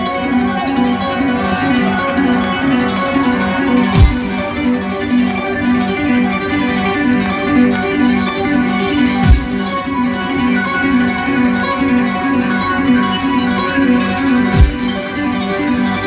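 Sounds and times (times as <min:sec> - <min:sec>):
electric guitar fast riff: 0:00.0 - 0:16.0.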